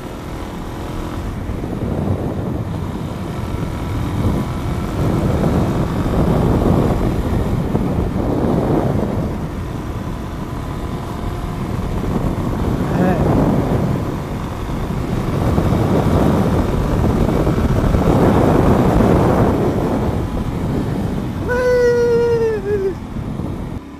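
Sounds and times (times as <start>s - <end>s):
motorcycle engine riding: 0.0s - 23.9s
rushing wind: 0.0s - 23.9s.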